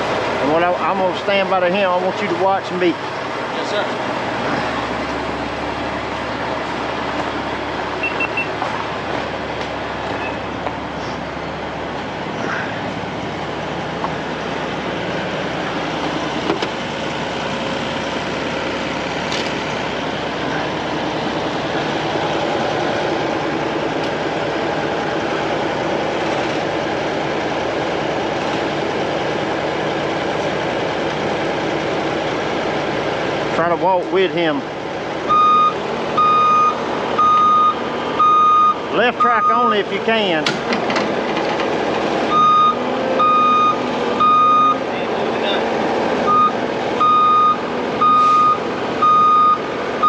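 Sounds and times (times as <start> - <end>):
heavy diesel engines running: 0.0 - 50.0.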